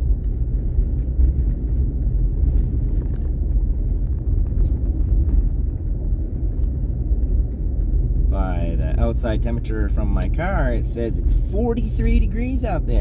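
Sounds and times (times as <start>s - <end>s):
truck engine and tyre rumble: 0.0s - 13.0s.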